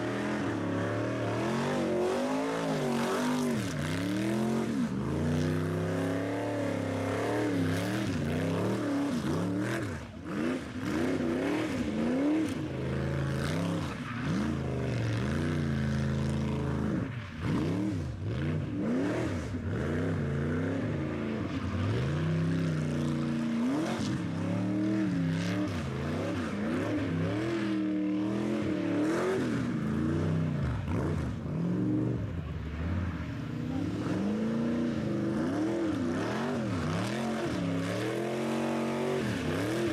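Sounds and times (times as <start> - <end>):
car engine revving hard: 0.0 - 32.3, 33.6 - 39.9.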